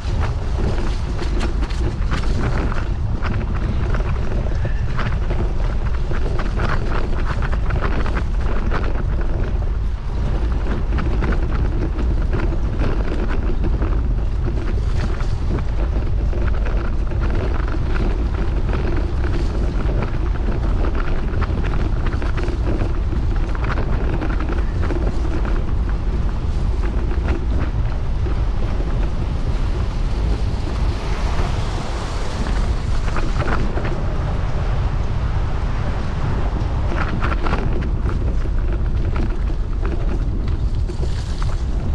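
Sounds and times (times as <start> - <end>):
vehicle rumble: 0.0 - 41.9
wind buffeting microphone: 0.0 - 41.9.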